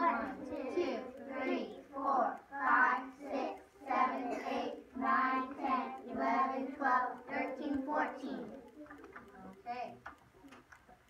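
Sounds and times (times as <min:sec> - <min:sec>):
children counting aloud in chant: 0:00.0 - 0:09.0.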